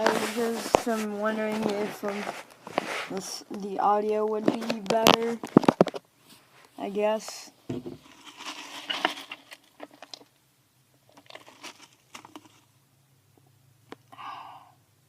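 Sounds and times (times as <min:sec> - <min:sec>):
rustling and crinkling handling: 0:00.0 - 0:10.4, 0:11.0 - 0:12.7.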